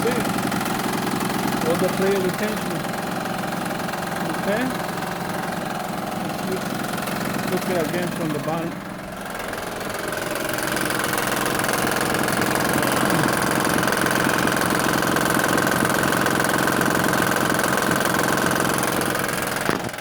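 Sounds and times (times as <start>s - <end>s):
car engine idling: 0.0s - 20.0s
timing belt rattling: 0.0s - 20.0s.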